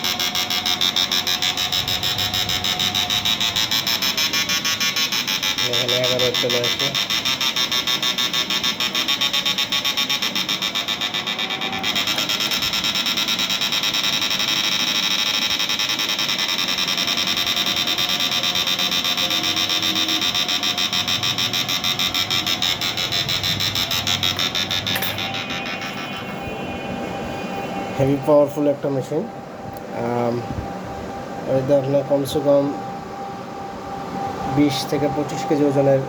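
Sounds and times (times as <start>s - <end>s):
inverter buzzing pulses: 0.0s - 36.0s.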